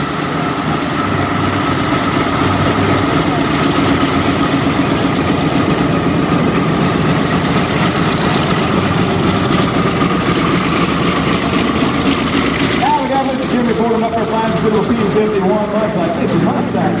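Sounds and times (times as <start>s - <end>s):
piston aircraft engine droning: 0.0s - 17.0s.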